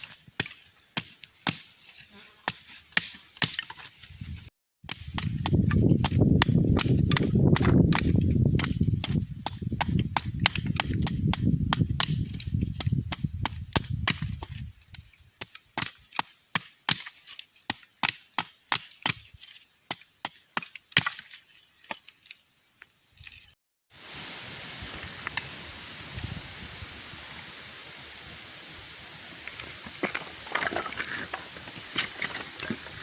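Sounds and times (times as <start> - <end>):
steady high-pitched hiss: 0.0 - 33.0.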